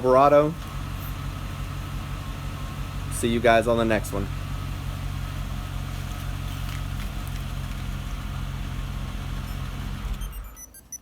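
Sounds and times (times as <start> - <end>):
truck engine idling: 0.0 - 10.6.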